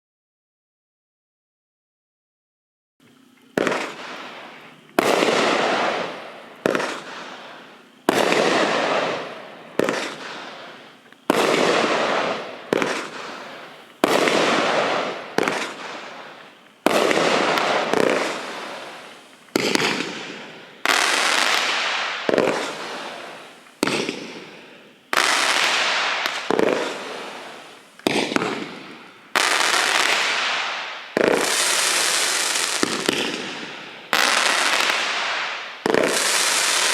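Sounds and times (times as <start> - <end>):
fireworks bangs: 3.5 - 36.9.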